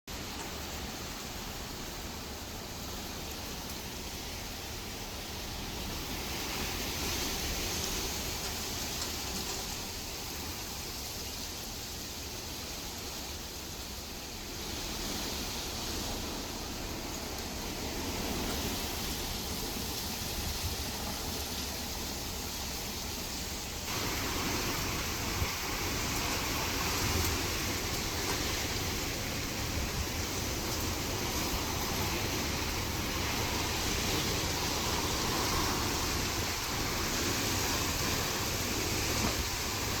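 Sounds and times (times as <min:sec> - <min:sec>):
heavy rain: 0:00.1 - 0:40.0
strong wind: 0:00.1 - 0:40.0.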